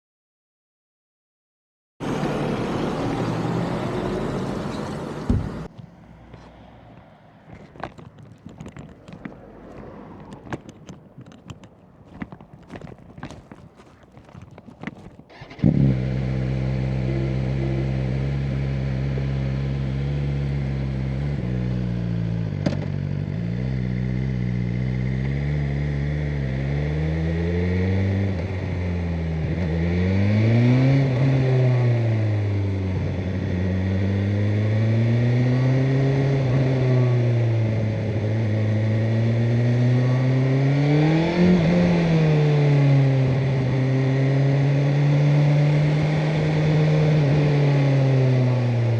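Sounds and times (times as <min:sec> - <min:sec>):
motorcycle engine revving: 0:02.0 - 0:48.9
motorcycle engine starting and idling: 0:02.1 - 0:29.8, 0:30.6 - 0:48.9.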